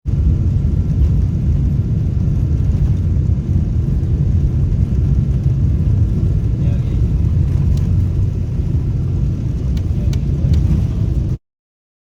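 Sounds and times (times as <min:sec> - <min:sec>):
jet airliner rumble: 0:00.0 - 0:11.4.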